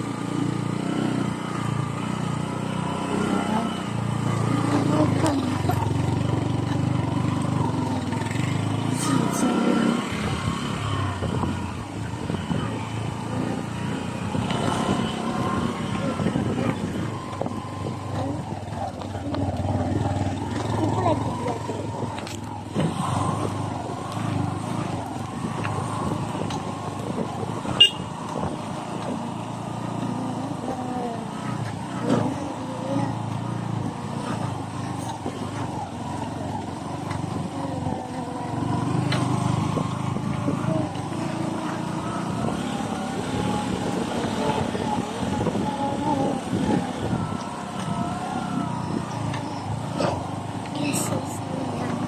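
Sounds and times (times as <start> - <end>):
motor scooter engine running: 0.0 - 52.0
road rumble: 0.0 - 52.0.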